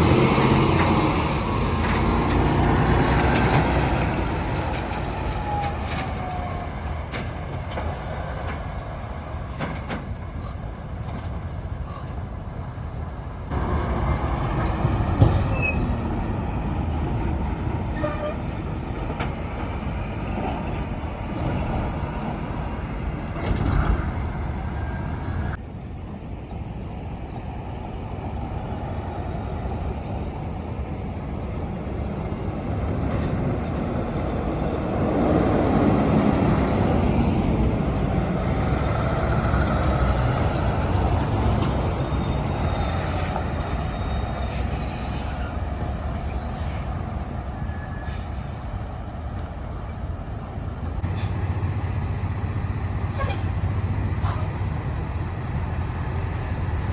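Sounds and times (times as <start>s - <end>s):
heavy trucks passing: 0.0s - 56.9s.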